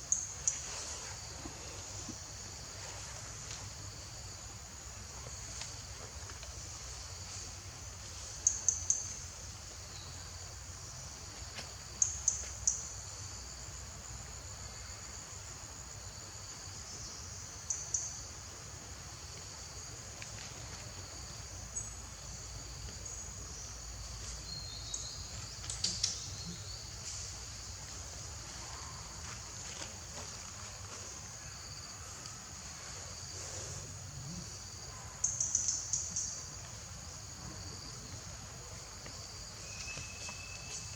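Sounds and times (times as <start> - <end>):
insect chorus: 0.0 - 40.9.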